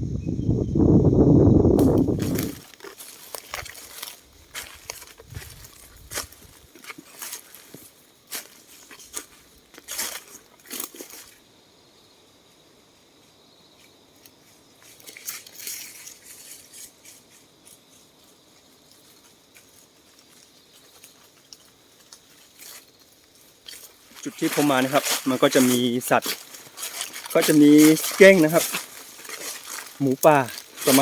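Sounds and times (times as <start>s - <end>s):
dry leaves and twigs crunching: 1.8s - 11.5s, 13.8s - 31.0s.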